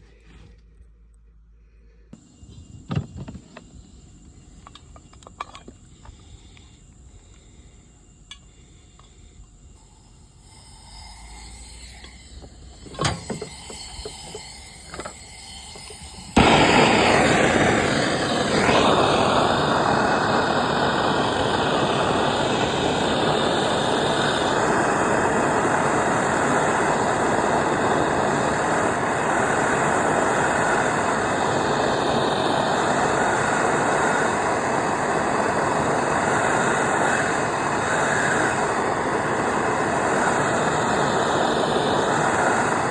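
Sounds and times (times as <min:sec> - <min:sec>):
gas torch hissing: 0:02.1 - 0:42.9
gas torch lighting whoosh: 0:02.2 - 0:42.9.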